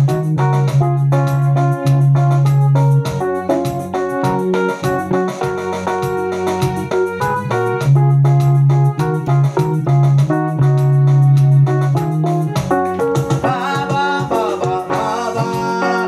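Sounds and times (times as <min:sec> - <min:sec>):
held bass notes: 0:00.0 - 0:16.0
piano-like notes: 0:00.0 - 0:16.0.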